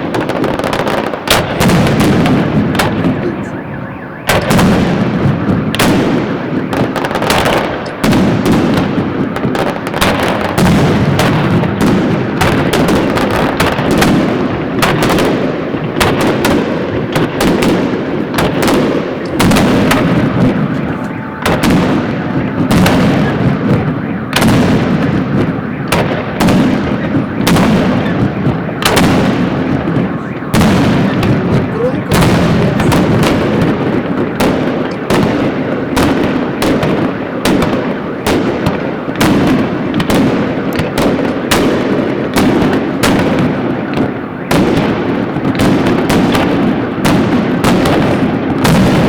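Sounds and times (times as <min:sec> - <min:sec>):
fireworks bangs: 0:00.0 - 0:49.0.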